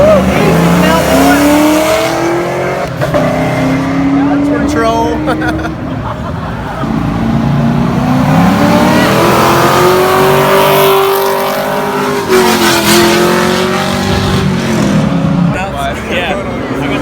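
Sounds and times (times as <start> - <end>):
car engine accelerating hard: 0.0 - 6.0, 6.7 - 17.0.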